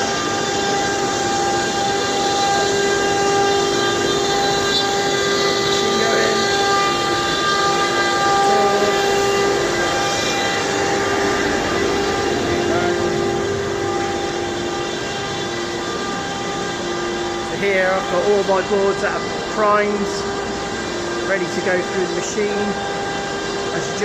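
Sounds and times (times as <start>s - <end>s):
cnc router cutting wood: 0.0s - 24.0s.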